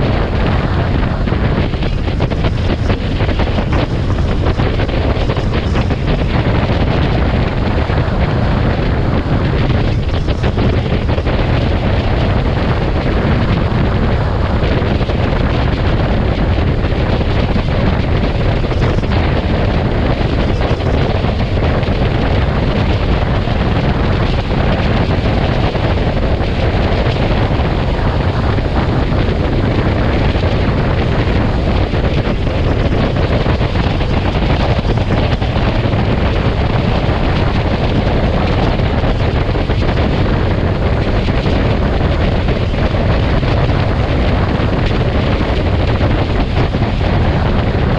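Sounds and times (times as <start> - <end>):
heavy wind on microphone: 0.0 - 47.9
road and vehicle rumble: 0.0 - 47.9.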